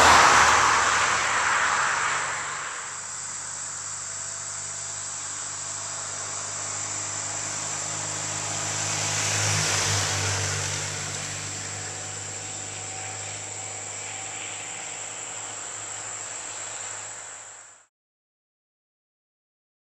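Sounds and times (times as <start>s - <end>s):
high-pitched insect drone: 0.0s - 17.8s
motorcycle passing by: 0.0s - 17.8s.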